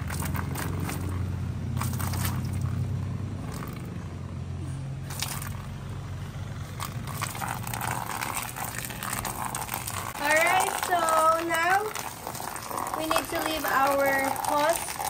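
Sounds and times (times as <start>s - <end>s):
hose water splashing into pool: 0.0s - 4.1s, 5.0s - 15.0s.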